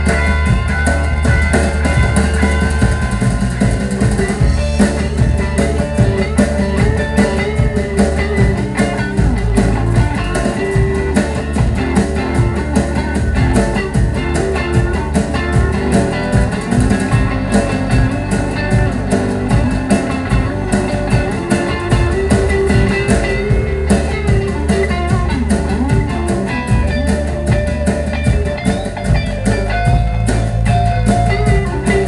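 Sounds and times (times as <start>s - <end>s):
bass guitar: 0.0s - 32.0s
drum kit with cymbals: 0.0s - 32.0s
electric guitar: 0.0s - 32.0s.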